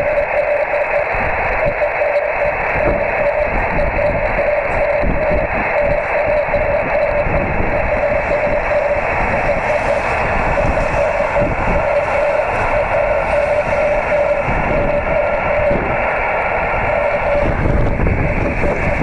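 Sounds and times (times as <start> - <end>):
morse code tone: 0.0 - 19.0
receiver hiss: 0.0 - 19.0
wind rumble on microphone: 0.0 - 19.0.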